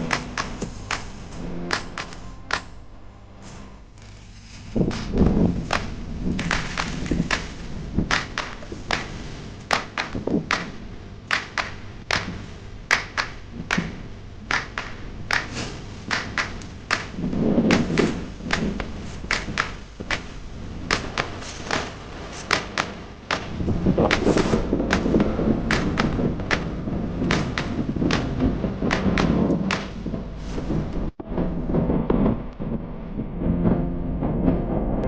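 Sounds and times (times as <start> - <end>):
sharp knocks and thuds: 0.0 - 2.8, 4.7 - 35.0
low rumble: 0.0 - 35.0.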